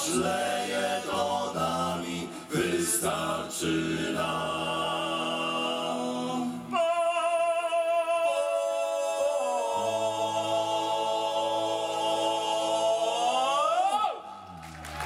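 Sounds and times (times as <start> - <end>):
male choir holding a chord: 0.0 - 7.2, 8.0 - 13.9.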